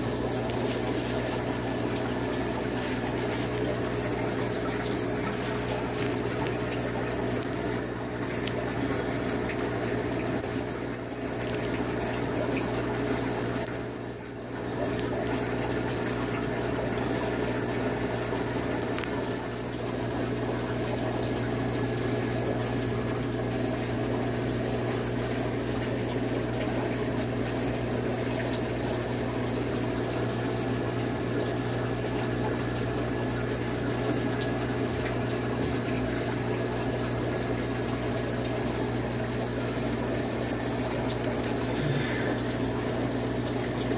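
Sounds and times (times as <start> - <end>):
aquarium pump humming: 0.0 - 43.9
water churning and bubbling: 0.0 - 43.9.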